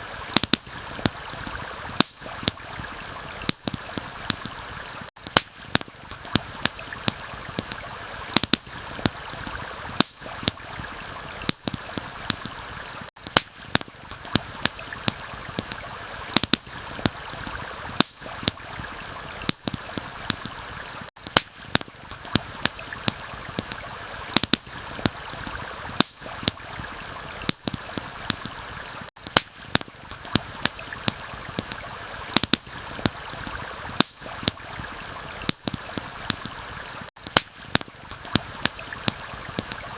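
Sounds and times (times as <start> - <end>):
campfire crackling and popping: 0.0 - 39.9
stream water running: 0.0 - 39.9.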